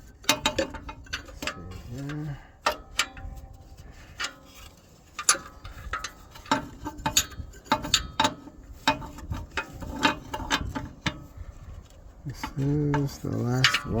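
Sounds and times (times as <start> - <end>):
hand tools clinking on metal: 0.2 - 11.2, 12.3 - 14.0.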